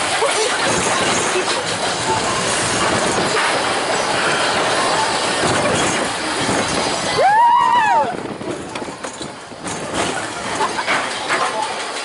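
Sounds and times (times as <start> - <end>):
roller coaster wheels rumbling on rail: 0.0 - 12.0.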